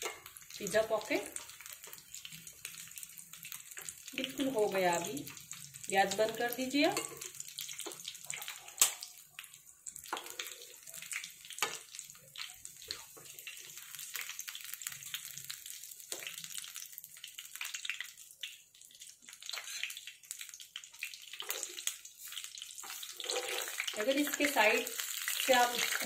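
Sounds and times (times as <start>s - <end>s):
hot oil sizzling and popping: 0.0s - 26.0s.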